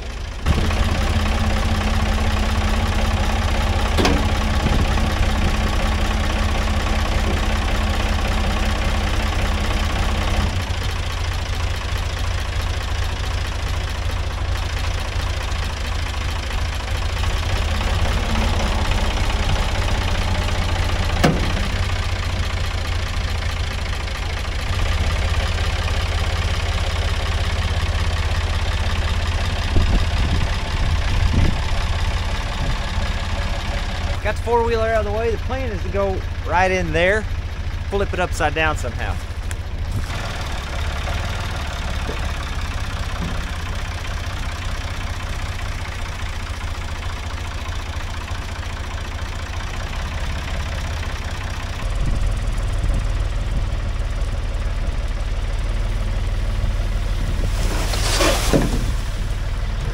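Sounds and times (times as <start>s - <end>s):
diesel engine under hydraulic load: 0.0s - 59.9s.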